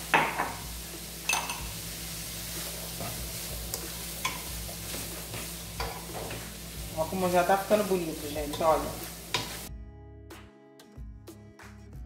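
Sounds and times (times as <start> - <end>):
vegetables sizzling in a pan: 0.0 - 9.7.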